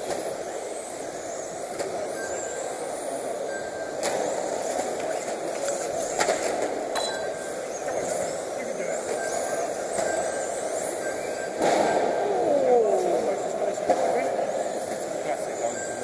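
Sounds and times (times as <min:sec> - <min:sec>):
rc truck motors whining: 0:00.0 - 0:16.0.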